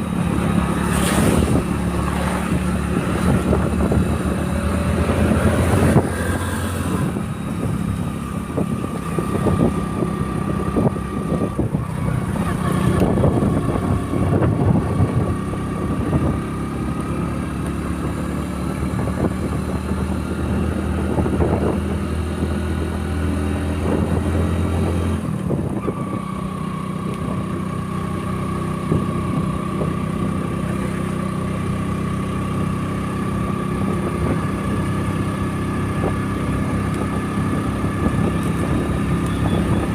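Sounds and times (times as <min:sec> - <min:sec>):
wind buffeting microphone: 0:00.0 - 0:30.5, 0:32.5 - 0:39.9
motorcycle engine running: 0:00.0 - 0:39.9.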